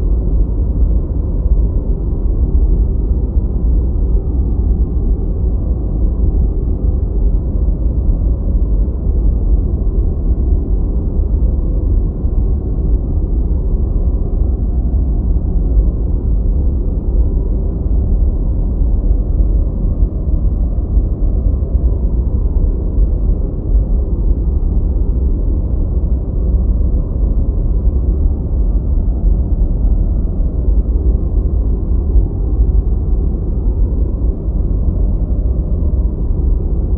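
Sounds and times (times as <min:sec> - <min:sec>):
deep white noise rumble: 0:00.0 - 0:36.9.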